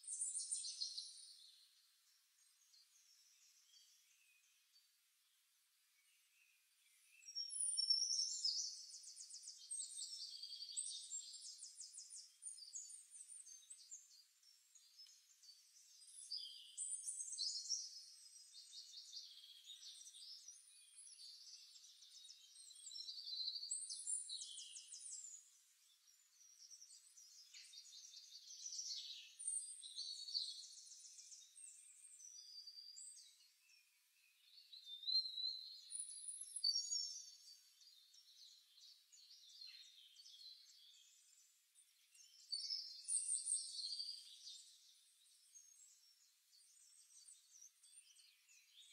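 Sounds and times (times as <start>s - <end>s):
songbirds trilling and chirping: 0.0s - 48.9s.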